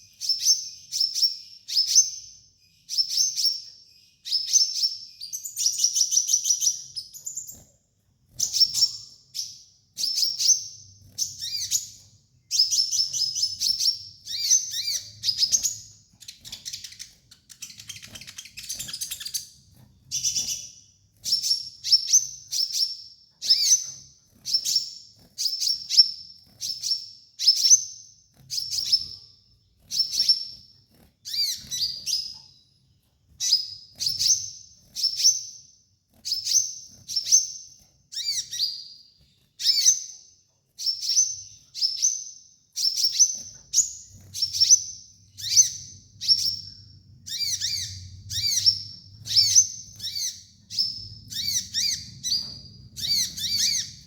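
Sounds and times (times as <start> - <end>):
sunbird chirping: 0.0 - 35.7, 40.8 - 54.0.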